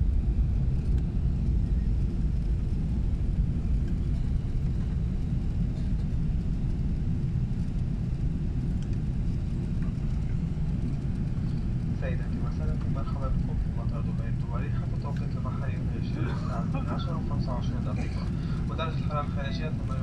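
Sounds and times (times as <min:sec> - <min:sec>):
low rumble in aircraft cabin: 0:00.0 - 0:20.0.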